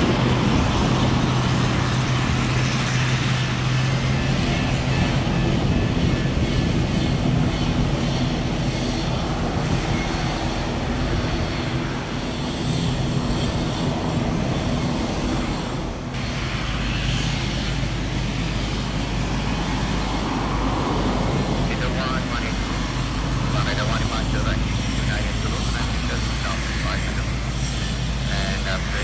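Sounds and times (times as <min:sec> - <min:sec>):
turboprop engines droning: 0:00.0 - 0:29.0.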